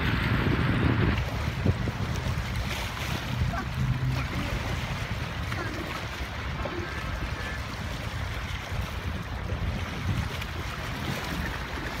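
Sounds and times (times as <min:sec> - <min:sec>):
water washing: 0:00.0 - 0:12.0
wind buffeting microphone: 0:00.0 - 0:12.0.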